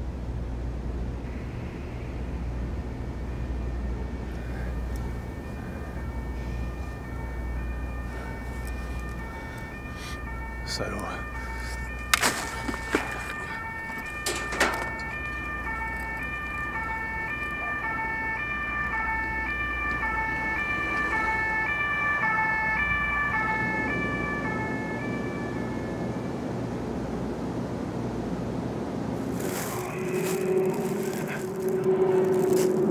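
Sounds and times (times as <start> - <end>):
two-tone siren: 3.2 - 26.4, 29.6 - 32.9.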